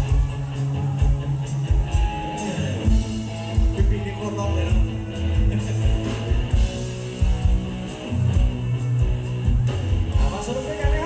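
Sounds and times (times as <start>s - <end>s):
live band music: 0.0s - 11.0s
steady drum beat: 0.0s - 11.0s.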